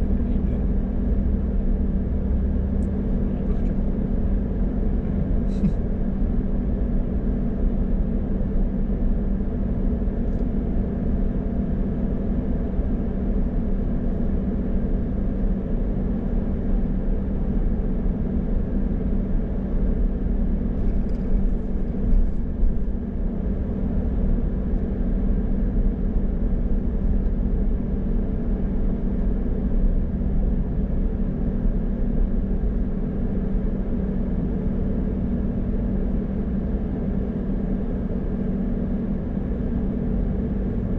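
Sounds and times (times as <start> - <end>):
car engine and road noise: 0.0 - 38.4.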